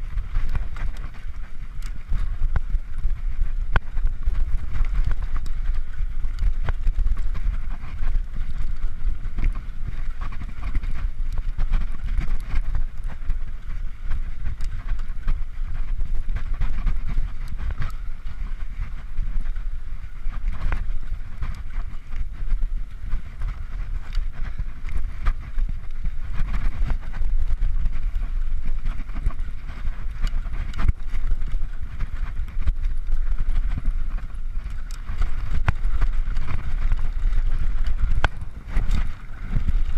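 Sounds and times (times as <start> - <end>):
bike clicking and rattling: 0.0 - 39.9
tyres and wind rumble: 0.0 - 39.9.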